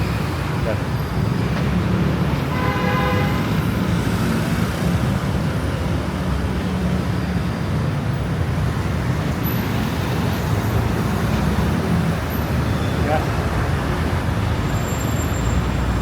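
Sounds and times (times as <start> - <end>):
heavy road traffic rumble: 0.0 - 16.0.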